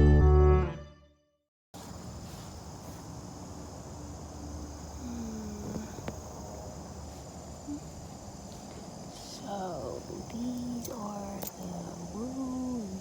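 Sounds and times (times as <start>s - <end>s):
insects trilling: 1.8s - 13.0s.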